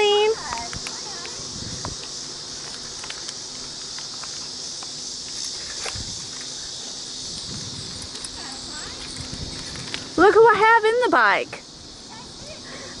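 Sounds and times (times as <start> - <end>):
bicycle rolling on asphalt: 0.0 - 13.0
insects droning: 0.0 - 13.0.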